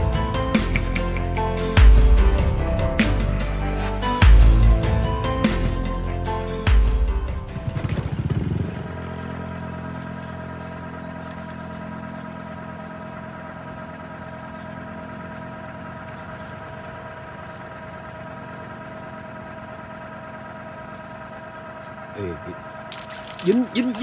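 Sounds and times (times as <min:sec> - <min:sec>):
motor hum: 0:00.0 - 0:24.0.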